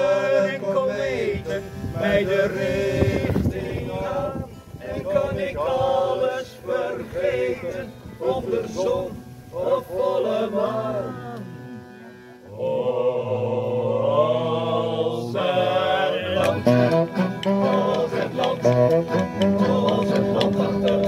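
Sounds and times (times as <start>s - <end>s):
men singing: 0.0s - 11.6s, 12.5s - 21.0s
accordion: 0.0s - 21.0s.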